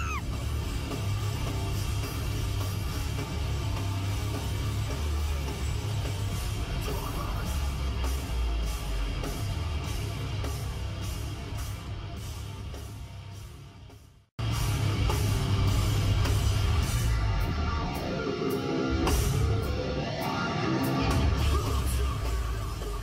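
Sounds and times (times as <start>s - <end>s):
live heavy metal band: 0.0s - 23.0s.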